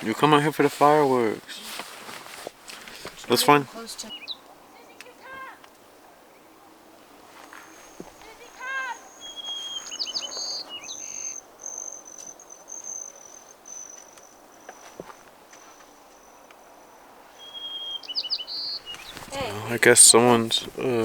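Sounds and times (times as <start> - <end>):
insects trilling: 2.8 - 21.0
bird song chirps: 3.2 - 21.0.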